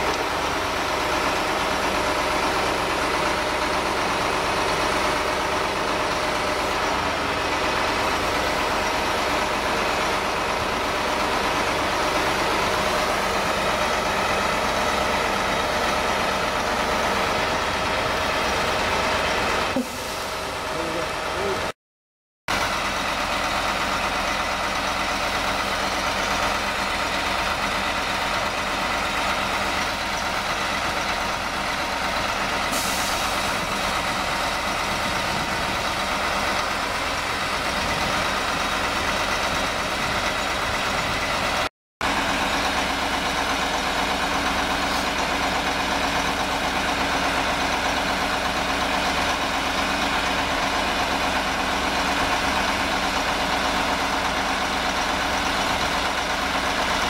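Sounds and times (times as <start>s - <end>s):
truck diesel engine idling: 0.0s - 21.7s, 22.5s - 57.0s.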